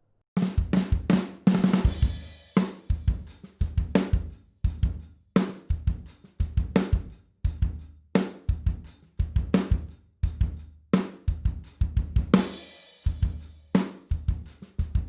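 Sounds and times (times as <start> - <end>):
acoustic drum kit groove: 0.4 - 15.0.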